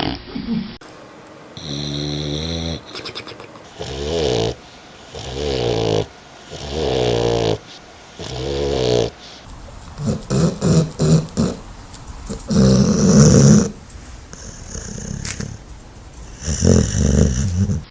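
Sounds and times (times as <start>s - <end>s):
dog snoring: 1.6s - 11.7s, 12.3s - 15.6s, 16.2s - 17.9s.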